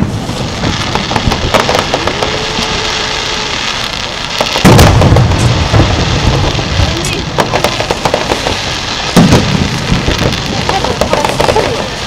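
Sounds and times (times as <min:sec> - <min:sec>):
fireworks pops and crackles: 0:00.0 - 0:12.0
heavy firework boom: 0:00.0 - 0:12.0.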